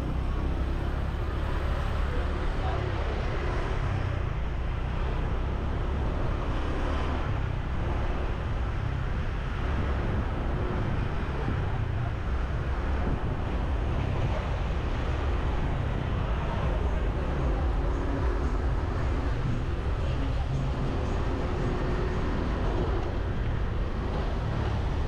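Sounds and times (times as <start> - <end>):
traffic noise: 0.0 - 25.0.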